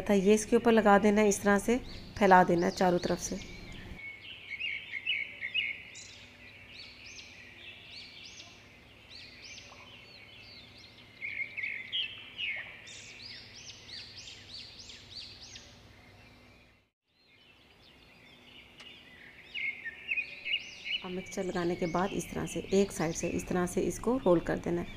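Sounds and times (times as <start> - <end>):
small birds chirping: 0.2 - 24.9.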